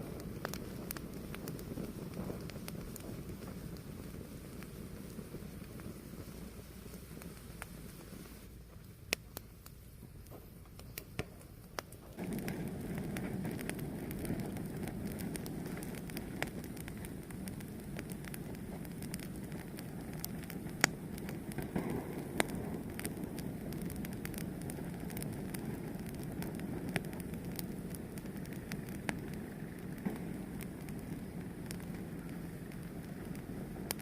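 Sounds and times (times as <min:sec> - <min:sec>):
fire crackles and pops: 0:00.0 - 0:34.0
fire rushing: 0:00.0 - 0:34.0.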